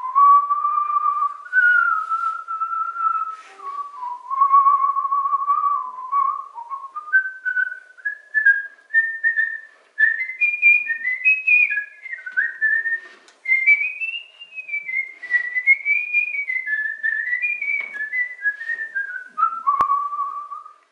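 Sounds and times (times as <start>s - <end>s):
man whistling a melody: 0.0s - 20.8s.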